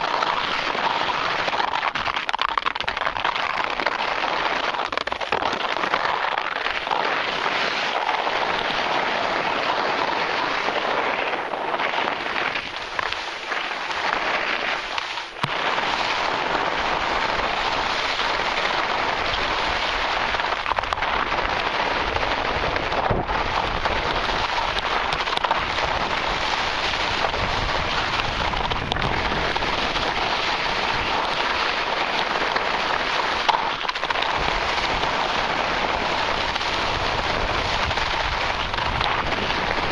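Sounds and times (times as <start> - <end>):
skis sliding over snow: 0.0 - 39.9.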